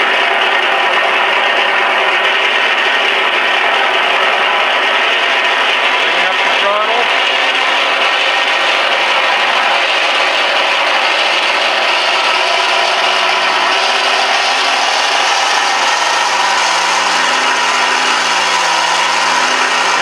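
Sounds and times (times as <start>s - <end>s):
recorded radial aircraft engine: 0.0s - 20.0s.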